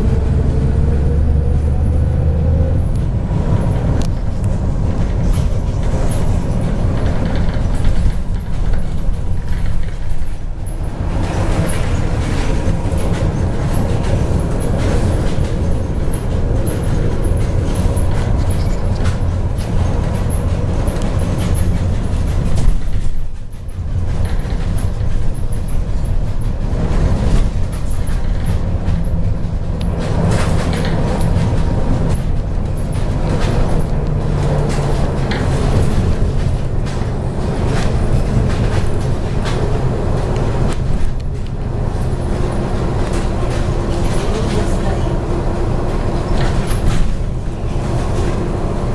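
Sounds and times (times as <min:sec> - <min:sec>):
bus diesel engine drone: 0:00.0 - 0:48.9
road rumble: 0:00.0 - 0:48.9.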